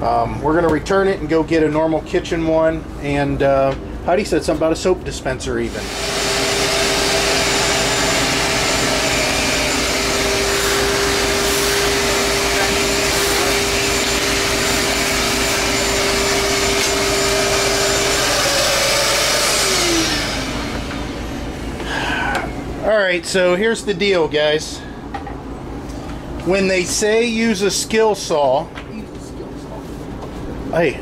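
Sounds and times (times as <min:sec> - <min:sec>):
shop vacuum running: 0:00.0 - 0:31.0.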